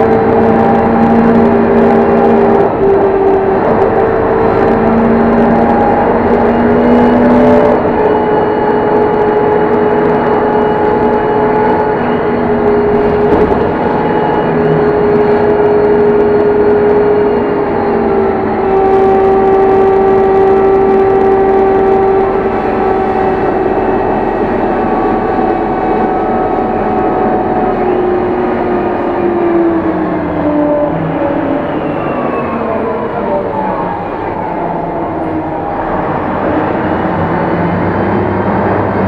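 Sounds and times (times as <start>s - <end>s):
bus engine drone: 0.0s - 39.0s
whine shifting pitch: 0.0s - 39.0s.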